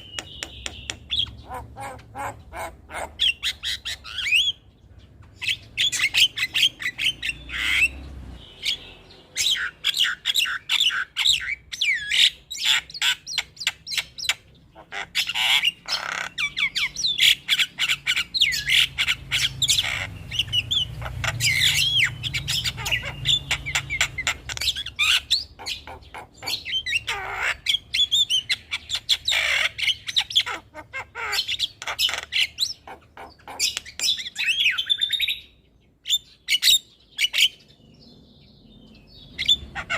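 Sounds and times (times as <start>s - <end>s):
birds squawking and whistling: 0.0s - 39.9s.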